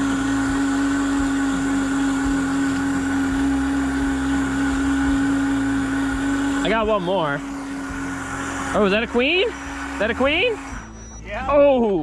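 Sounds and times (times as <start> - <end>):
motor whining: 0.0 - 12.0.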